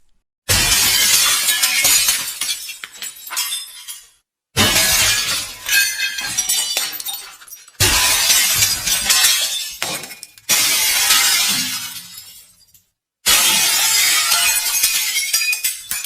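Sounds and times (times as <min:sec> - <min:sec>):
glass shattering: 0:00.5 - 0:16.0
glass shards tinkling: 0:00.9 - 0:04.2, 0:04.8 - 0:12.8, 0:13.5 - 0:16.0.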